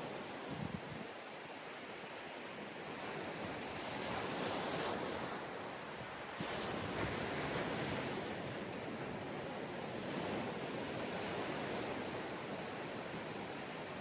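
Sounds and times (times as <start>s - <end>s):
ocean waves washing on beach: 0.0s - 14.0s.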